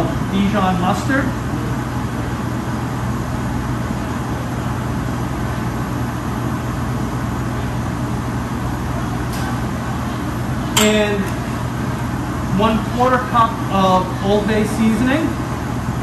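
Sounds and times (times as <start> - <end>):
low machinery drone: 0.0 - 16.0
ventilation rushing noise: 0.0 - 16.0.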